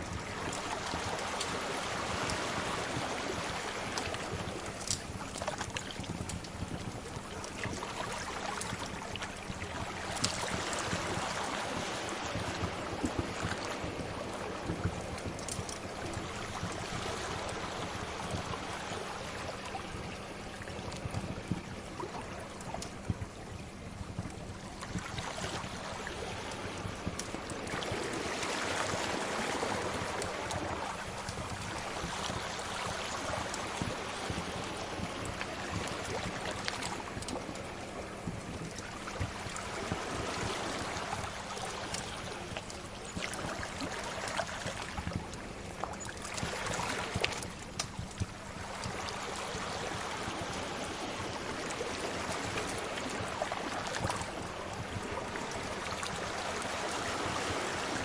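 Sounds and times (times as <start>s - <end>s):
sea waves washing: 0.0s - 23.0s, 23.6s - 58.0s.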